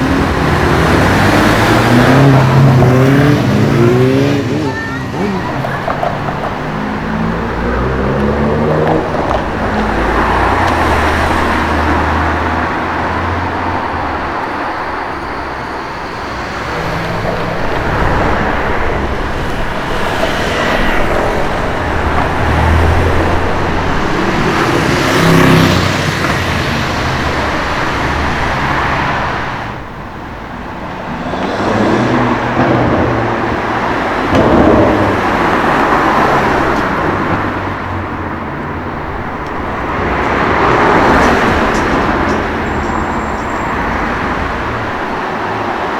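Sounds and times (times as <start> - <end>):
car engine revving: 0.0 - 14.0, 16.1 - 45.9.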